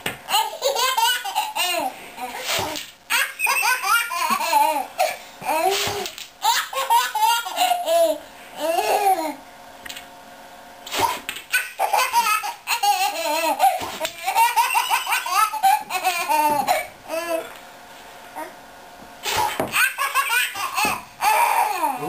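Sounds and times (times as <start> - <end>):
toddler laughing: 0.3 - 9.4, 11.0 - 17.6, 19.3 - 22.0.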